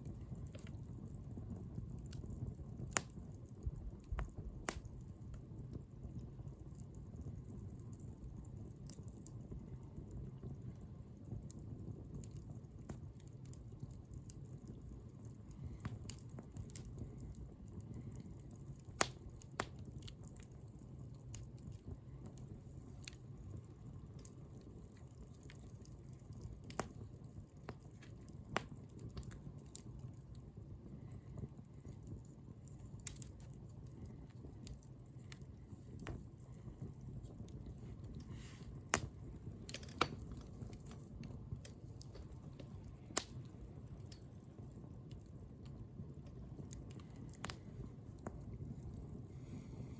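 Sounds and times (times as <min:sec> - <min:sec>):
bonfire crackling and popping: 0:00.0 - 0:49.9
low rumble of flames: 0:00.0 - 0:49.9.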